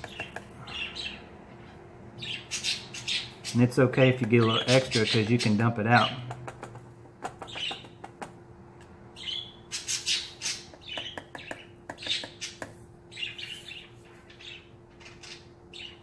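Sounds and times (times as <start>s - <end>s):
pet birds chirping: 0.0s - 8.3s, 9.1s - 16.0s.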